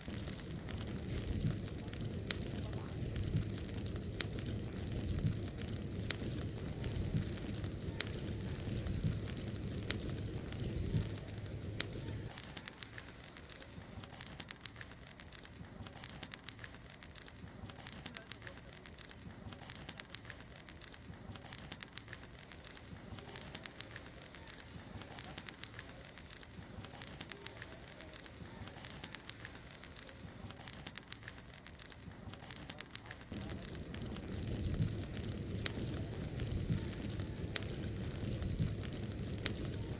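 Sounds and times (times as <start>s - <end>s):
bonfire crackling: 0.0s - 39.9s
fire pops: 0.0s - 39.9s.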